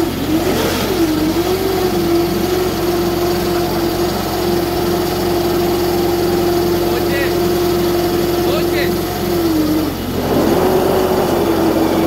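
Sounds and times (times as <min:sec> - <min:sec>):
tractor engine hum: 0:00.0 - 0:12.0.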